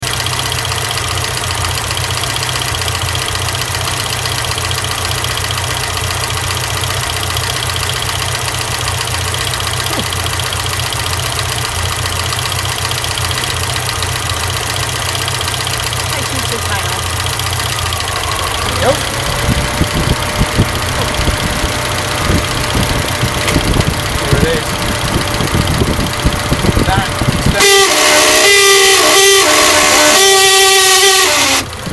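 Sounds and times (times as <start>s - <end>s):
fast high-pitched ticking: 0.0s - 27.8s
car engine idling: 0.0s - 31.9s.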